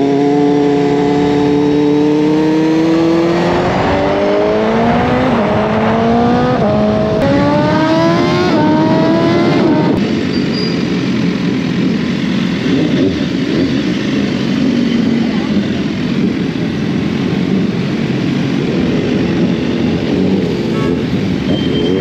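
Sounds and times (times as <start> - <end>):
motorcycle accelerating through gears: 0.0 - 22.0
wind and road noise: 0.0 - 22.0.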